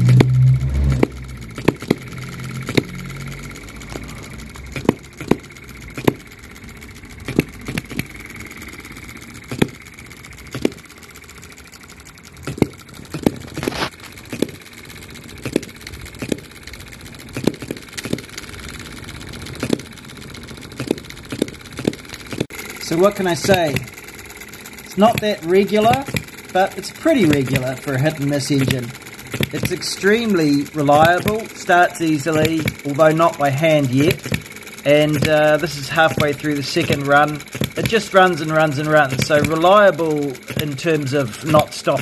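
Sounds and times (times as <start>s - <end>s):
model engine firing pops: 0.0s - 42.0s.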